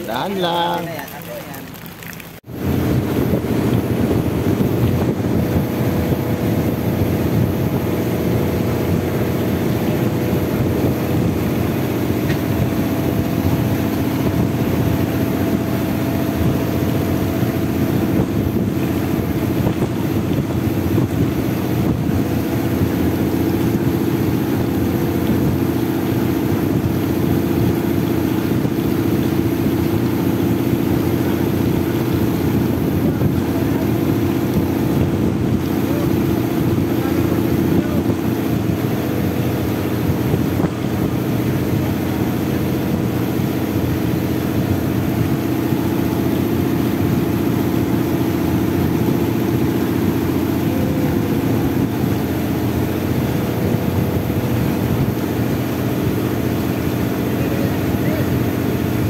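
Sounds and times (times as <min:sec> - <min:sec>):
boat engine drone: 0:00.0 - 0:59.0
water noise: 0:00.0 - 0:59.0
wind noise: 0:02.4 - 0:59.0.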